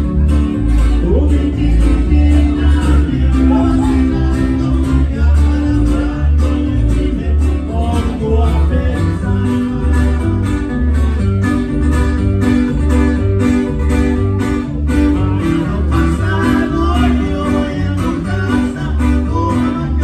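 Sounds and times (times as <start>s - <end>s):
bass line: 0.0s - 20.0s
plucked guitar melody: 0.0s - 20.0s.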